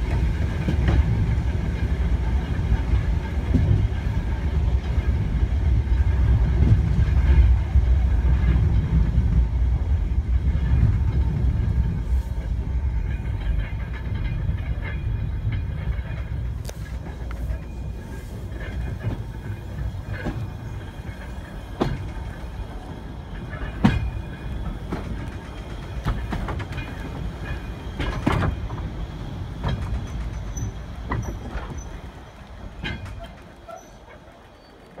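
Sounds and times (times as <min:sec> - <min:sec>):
train wagon rumbling and rattling: 0:00.0 - 0:35.0
wheels knocking on rail joints: 0:00.0 - 0:35.0.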